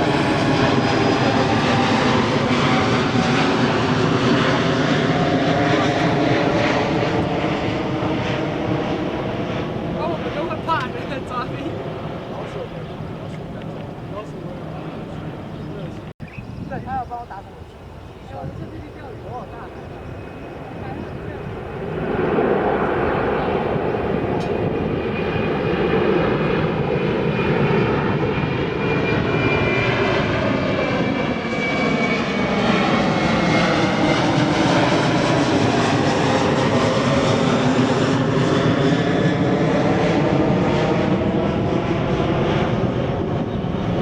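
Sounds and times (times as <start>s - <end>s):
jet airliner engine rush: 0.0s - 44.0s.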